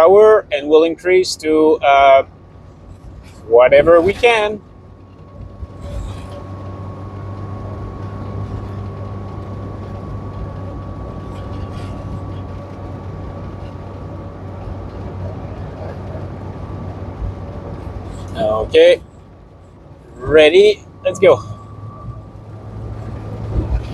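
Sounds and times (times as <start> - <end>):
engine and road drone: 0.0 - 23.9
thin high whine: 0.0 - 23.9.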